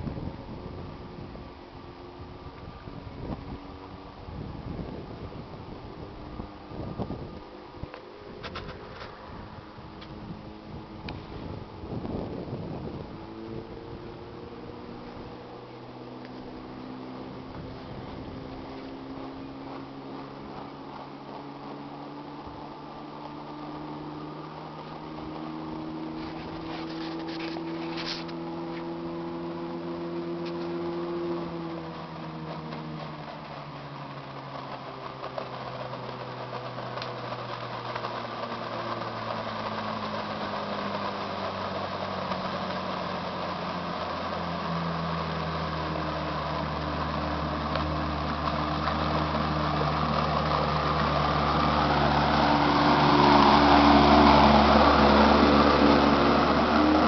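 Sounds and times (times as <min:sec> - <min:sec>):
outboard motor humming: 0:00.0 - 0:57.0
water rushing off hull: 0:00.0 - 0:57.0.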